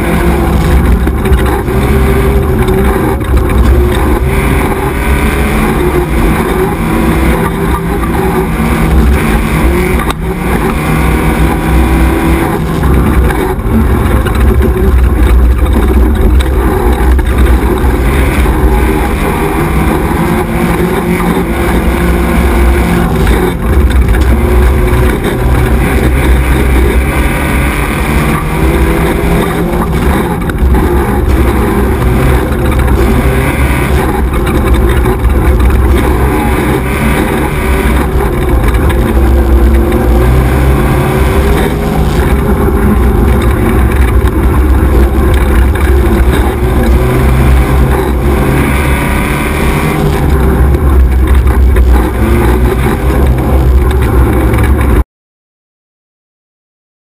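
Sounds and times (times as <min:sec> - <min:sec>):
buggy engine revving: 0:00.0 - 0:55.0
wind and ground noise: 0:00.0 - 0:55.0.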